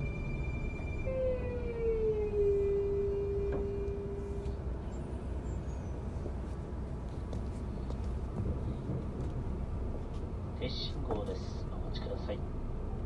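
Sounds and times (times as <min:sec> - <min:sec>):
electric train inverter whine: 0:00.0 - 0:13.0
train wheels rumbling on rail: 0:00.0 - 0:13.0.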